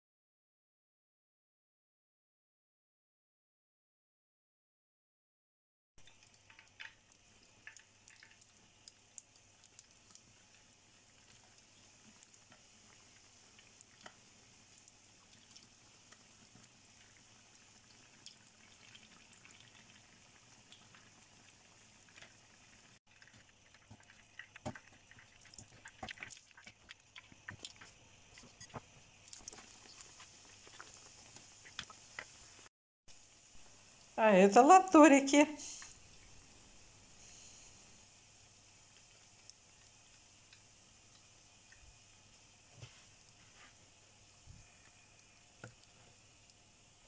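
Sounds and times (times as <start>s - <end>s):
oil sizzling with pops: 6.0s - 34.6s, 35.6s - 47.0s.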